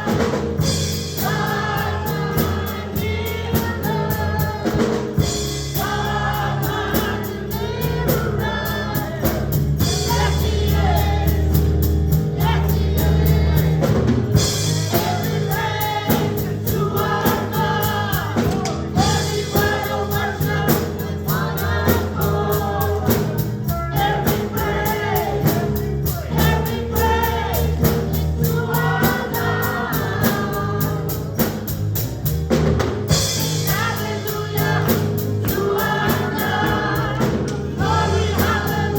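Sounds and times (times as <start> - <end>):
band with drums bass and keyboard: 0.0 - 38.9
gospel choir singing: 0.0 - 38.9.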